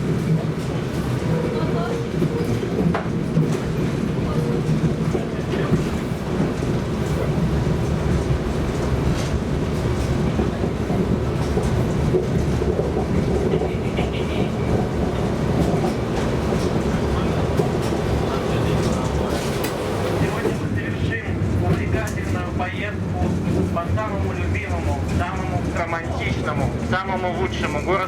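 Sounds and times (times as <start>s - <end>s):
tram wheels rumbling on rails: 0.0s - 28.0s.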